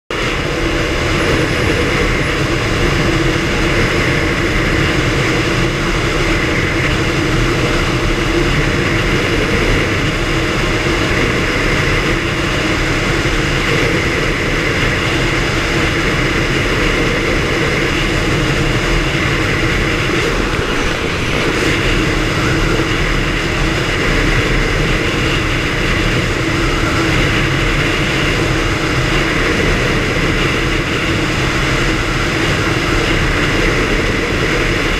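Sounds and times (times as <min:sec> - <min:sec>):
outboard motor running: 0:00.4 - 0:31.2.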